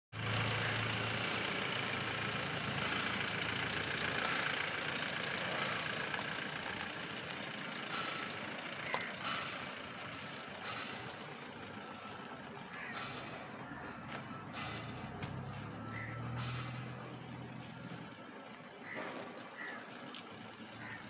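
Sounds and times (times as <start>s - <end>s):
boring rig engine running: 0.2s - 21.0s.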